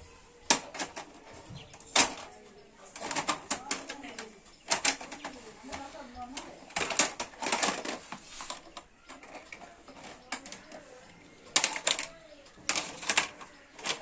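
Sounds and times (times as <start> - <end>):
plastic toys clattering: 0.0 - 14.0.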